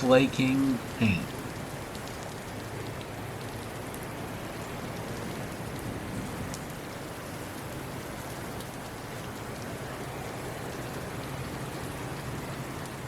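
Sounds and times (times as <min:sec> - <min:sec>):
faint raindrop ticks: 0:00.0 - 0:13.0
heavy rain hissing: 0:00.0 - 0:13.0.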